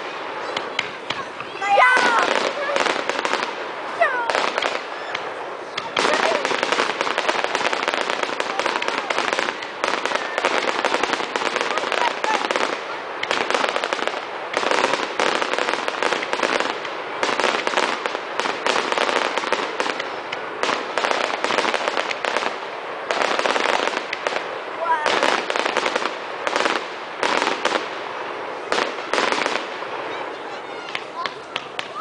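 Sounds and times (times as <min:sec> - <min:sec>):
fireworks cracking and popping: 0:00.0 - 0:32.0.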